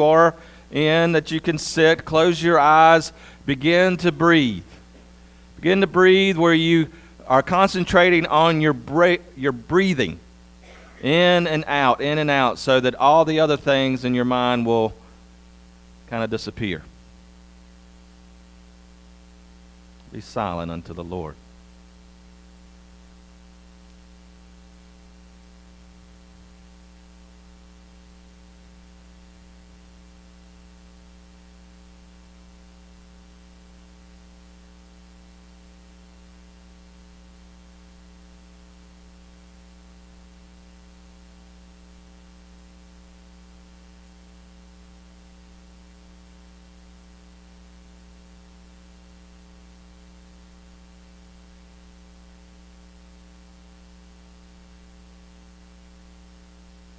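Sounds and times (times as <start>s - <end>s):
low hum with hiss: 0.0s - 56.9s.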